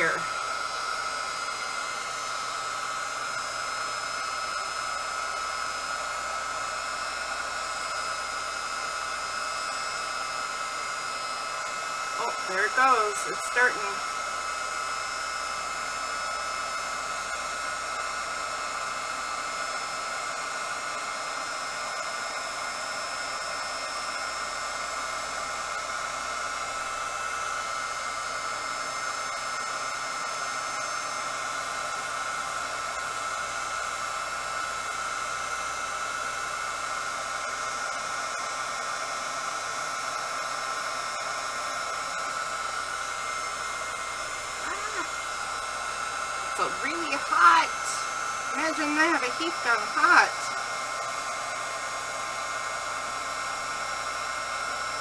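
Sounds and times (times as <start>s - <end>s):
heat gun fan whine: 0.0s - 55.0s.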